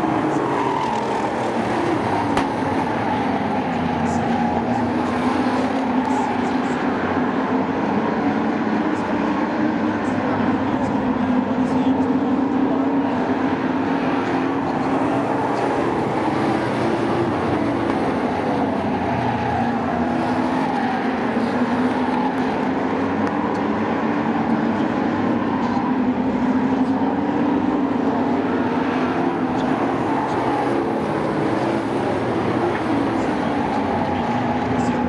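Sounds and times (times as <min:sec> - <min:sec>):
racing truck engines: 0:00.0 - 0:35.0.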